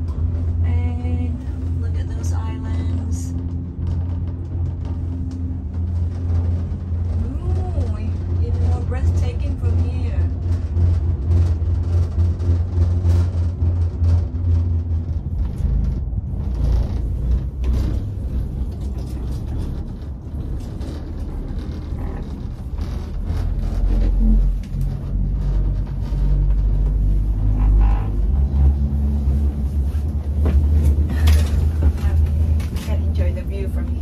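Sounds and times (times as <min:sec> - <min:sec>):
gondola cabin rumble: 0:00.0 - 0:34.0.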